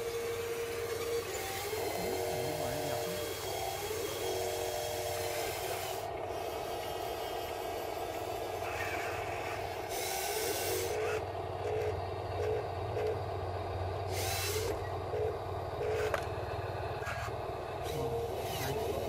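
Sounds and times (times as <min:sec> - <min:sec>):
electric motors humming: 0:00.0 - 0:19.0.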